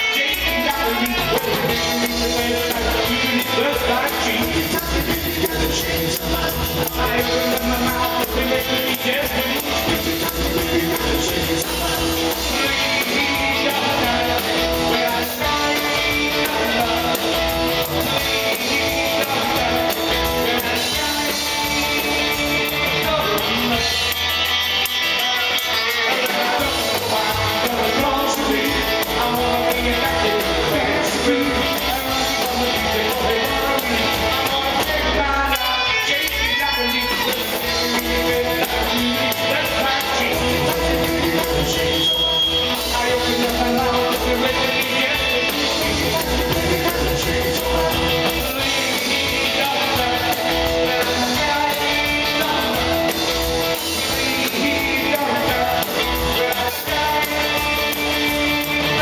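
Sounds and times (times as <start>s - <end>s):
drums steady beat: 0.0s - 59.0s
man singing into microphone: 0.0s - 59.0s.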